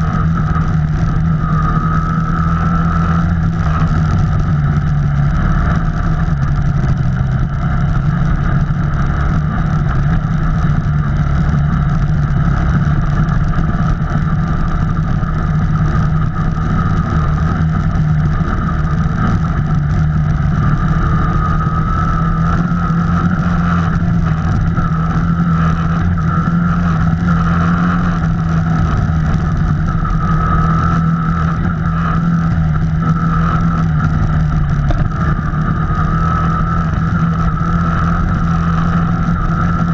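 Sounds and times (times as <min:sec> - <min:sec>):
high-pitched whine: 0:00.0 - 0:39.9
off-road vehicle engine running: 0:00.0 - 0:39.9.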